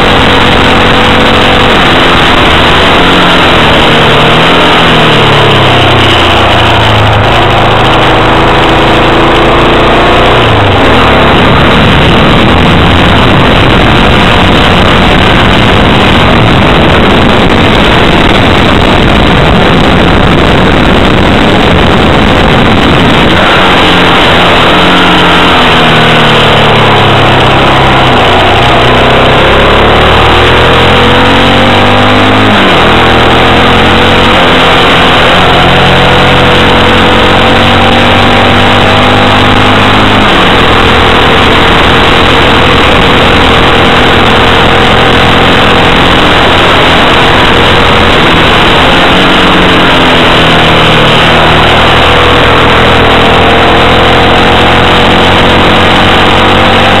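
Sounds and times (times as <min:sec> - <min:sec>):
dense rushing noise: 0:00.0 - 0:57.0
motorcycle engine while riding: 0:00.0 - 0:57.0.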